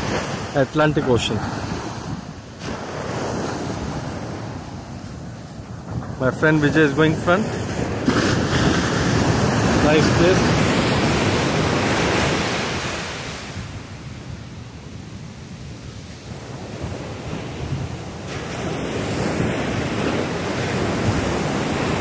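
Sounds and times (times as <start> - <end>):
surf breaking on beach: 0.0 - 14.3, 15.1 - 22.0
wind buffeting microphone: 0.0 - 22.0.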